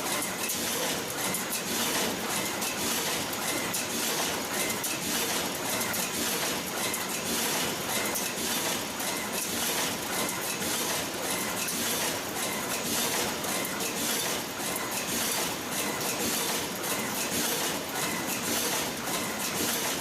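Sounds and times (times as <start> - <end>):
wire crimping machine clatter: 0.0 - 20.0.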